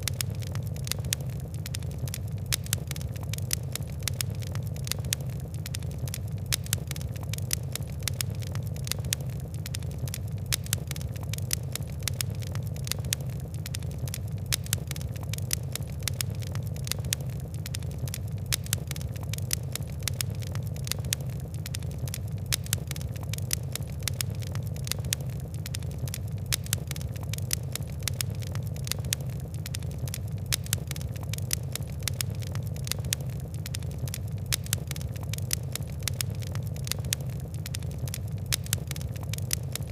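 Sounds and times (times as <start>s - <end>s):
fire crackling and popping: 0.0s - 39.9s
steady low rumble: 0.0s - 39.9s.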